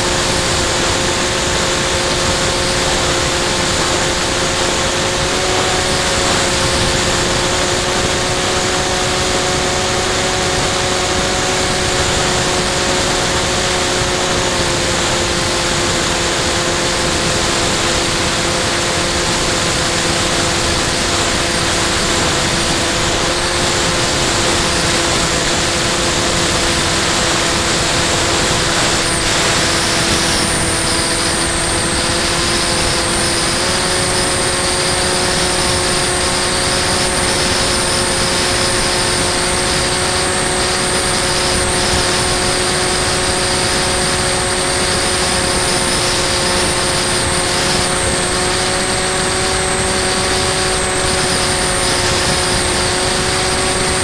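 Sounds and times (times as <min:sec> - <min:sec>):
electric motor and propeller: 0:00.0 - 0:54.0
thin high whine: 0:00.0 - 0:54.0
wind rushing over microphone: 0:00.0 - 0:54.0.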